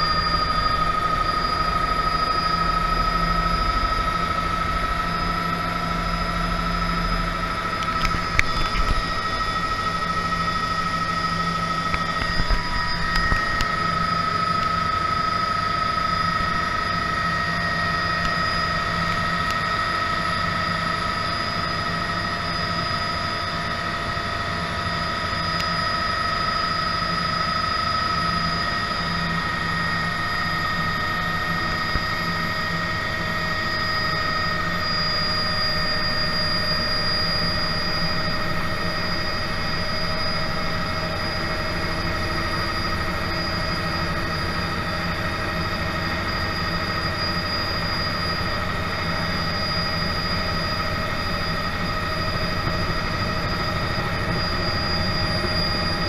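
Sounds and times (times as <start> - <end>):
helicopter rotor noise: 0.0 - 56.0
helicopter turbine whine: 0.0 - 56.0.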